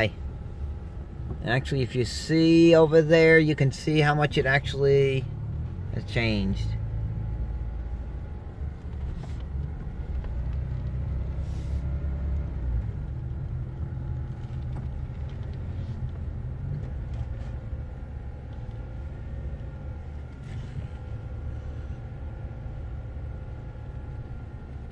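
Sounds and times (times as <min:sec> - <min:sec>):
car engine and road rumble: 0:00.0 - 0:24.9.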